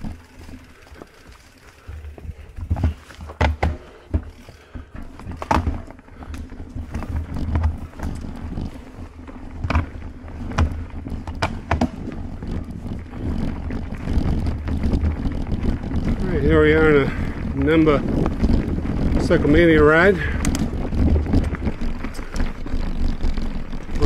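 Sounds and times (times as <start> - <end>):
bike knocks and rattles: 0.0 - 24.0
bike tyres rumbling on dirt: 0.0 - 24.0.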